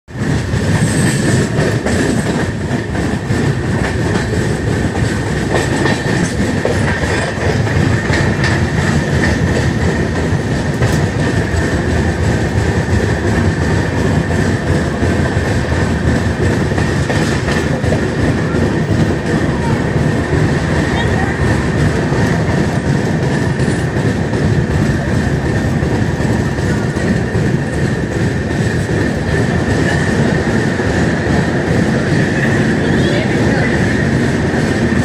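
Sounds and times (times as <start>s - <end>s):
rail joint clicks: 0.1s - 35.0s
train wheels rumbling on rails: 0.1s - 35.0s.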